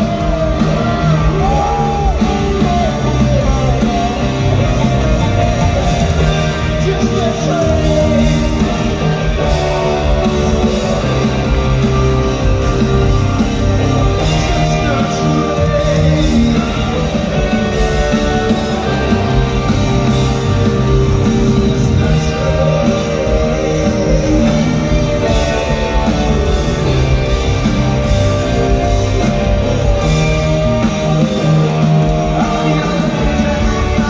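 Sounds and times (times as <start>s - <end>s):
electric guitar: 0.0s - 34.0s
rock band playing live: 0.0s - 34.0s.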